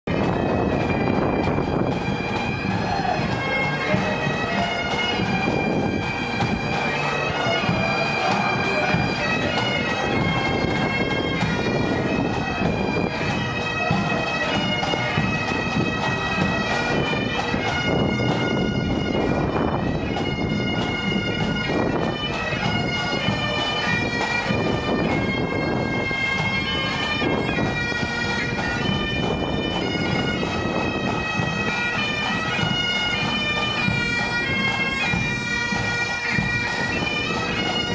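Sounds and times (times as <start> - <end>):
bagpipe drones: 0.1 - 37.9
bagpipes playing a tune: 0.1 - 37.9.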